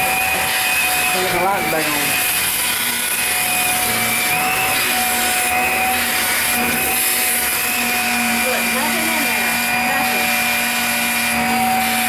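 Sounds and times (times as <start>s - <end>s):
stick vacuum motor whine: 0.0s - 12.0s.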